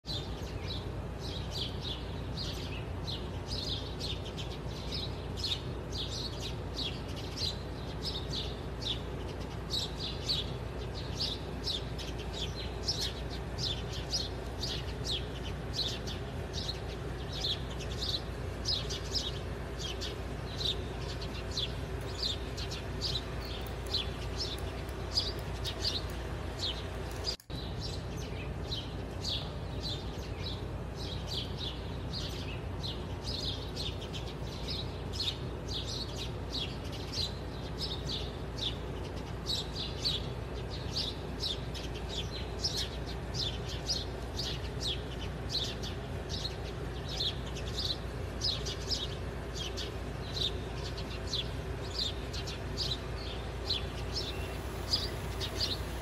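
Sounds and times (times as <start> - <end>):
low background hum: 0.0 - 56.0
small birds chirping: 0.0 - 56.0.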